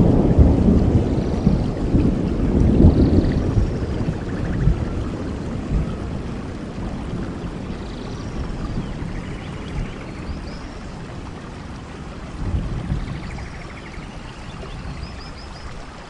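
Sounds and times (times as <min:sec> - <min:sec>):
low rumble of thunder: 0:00.0 - 0:15.9
heavy rain: 0:00.0 - 0:16.0.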